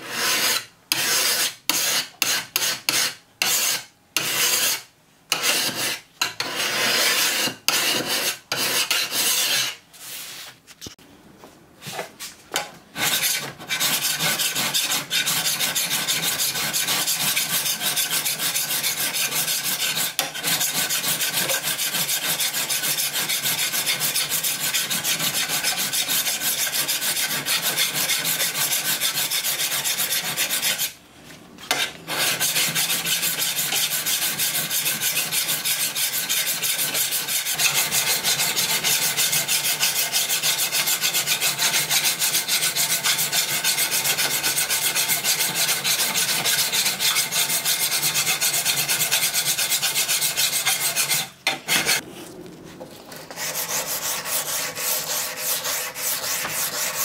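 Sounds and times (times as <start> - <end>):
file rasping on steel: 0.0 - 9.8, 13.0 - 31.0, 31.7 - 52.0, 53.2 - 57.0.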